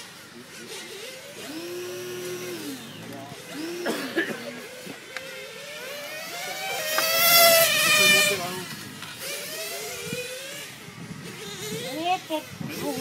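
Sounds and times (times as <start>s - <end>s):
small rc car motors whining: 0.0s - 13.0s.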